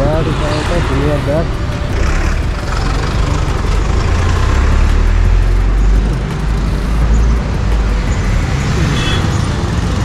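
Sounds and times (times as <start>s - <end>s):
motor vehicles rumbling: 0.0s - 10.0s
road noise hiss: 0.0s - 10.0s.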